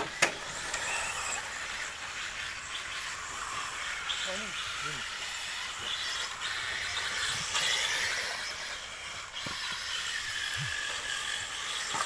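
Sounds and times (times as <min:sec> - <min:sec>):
rc car motors whining: 0:00.0 - 0:12.0
tyres hissing on loose dirt: 0:00.0 - 0:12.0.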